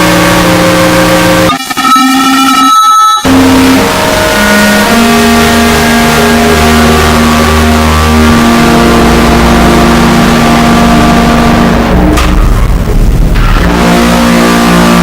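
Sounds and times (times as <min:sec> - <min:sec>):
distorted wind band chords: 0:00.0 - 0:15.0.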